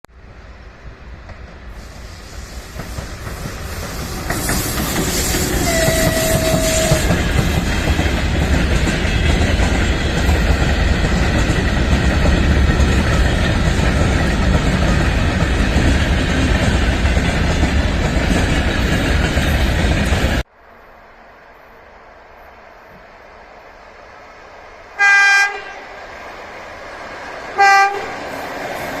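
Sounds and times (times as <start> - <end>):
train passing on rails: 0.1 - 29.0.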